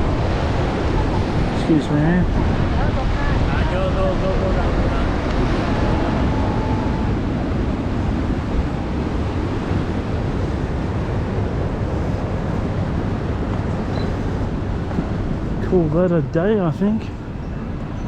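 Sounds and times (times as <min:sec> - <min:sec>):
ocean surf breaking: 0:00.0 - 0:17.9
wind buffeting microphone: 0:00.0 - 0:18.0.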